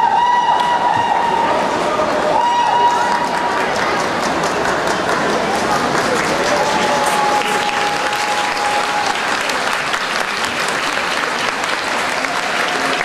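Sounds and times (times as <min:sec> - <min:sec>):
spectators applauding: 0:00.0 - 0:13.0.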